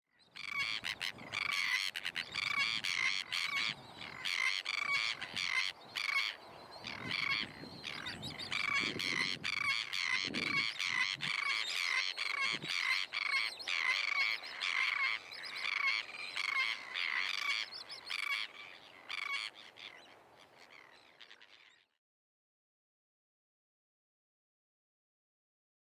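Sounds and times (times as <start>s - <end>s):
seabirds calling: 0.2s - 22.0s.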